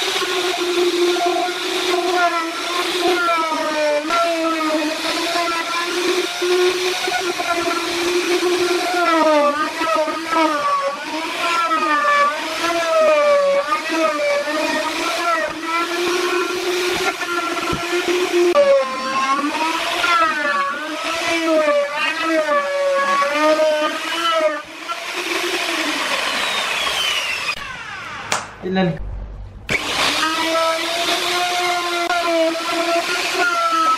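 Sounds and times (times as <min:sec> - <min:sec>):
router cutting plywood: 0:00.0 - 0:28.4, 0:29.7 - 0:33.9.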